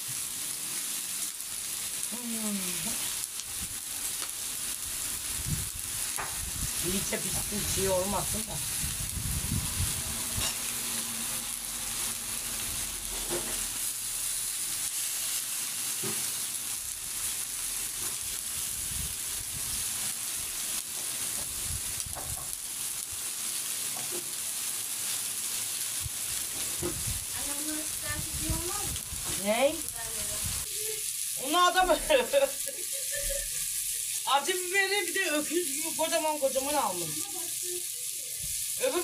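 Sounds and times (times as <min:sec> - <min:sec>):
meat sizzling on griddle: 0:00.0 - 0:39.0.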